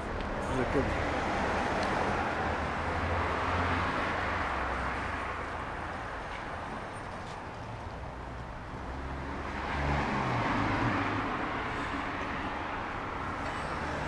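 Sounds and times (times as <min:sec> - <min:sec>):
road vehicle passing: 0:00.0 - 0:14.0.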